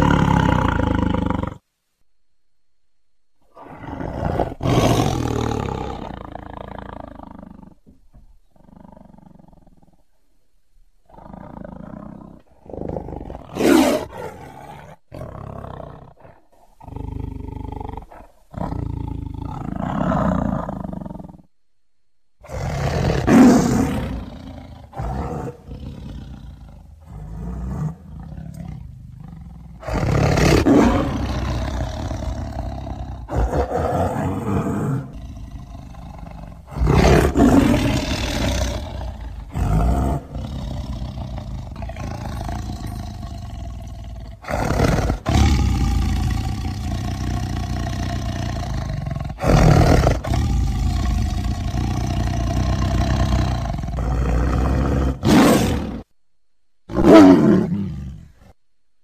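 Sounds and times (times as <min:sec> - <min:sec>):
tiger roaring and growling: 0:00.0 - 0:01.6, 0:03.5 - 0:10.1, 0:11.0 - 0:21.5, 0:22.4 - 0:56.1, 0:56.9 - 0:58.6.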